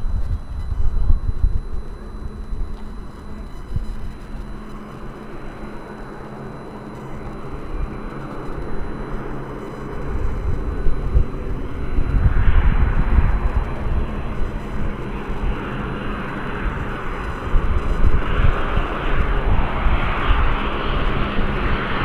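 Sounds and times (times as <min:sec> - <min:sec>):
turboprop aircraft approaching: 0:00.0 - 0:22.0.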